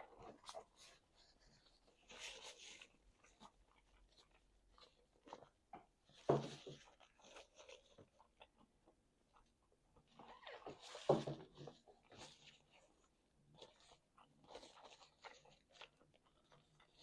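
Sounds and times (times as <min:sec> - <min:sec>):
chewing and mouth sounds: 0:00.0 - 0:17.0.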